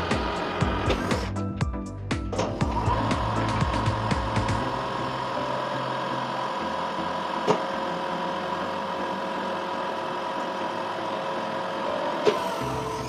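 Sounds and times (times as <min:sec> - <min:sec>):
metal lathe humming and whining: 0:00.0 - 0:01.4, 0:02.4 - 0:13.0.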